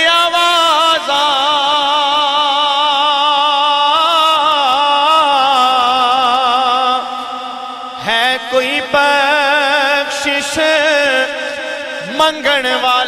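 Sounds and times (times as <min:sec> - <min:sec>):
man singing a long held note: 0:00.0 - 0:13.0.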